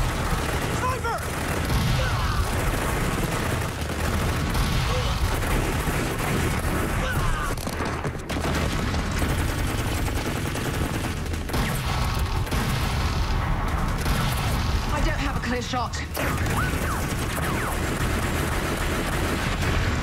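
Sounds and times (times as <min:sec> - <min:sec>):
sustained gunfire: 0:00.0 - 0:20.0.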